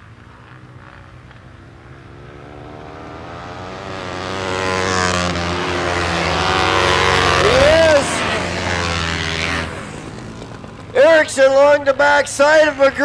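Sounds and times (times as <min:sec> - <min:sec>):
racing motorcycle engines: 0:00.0 - 0:13.0.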